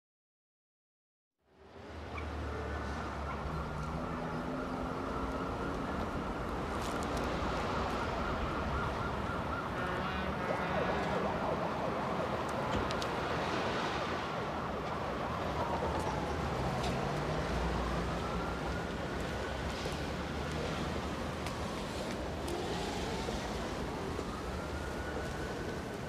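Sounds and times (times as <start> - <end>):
street traffic: 1.4 - 26.0
siren wailing: 2.6 - 12.4, 14.6 - 26.0.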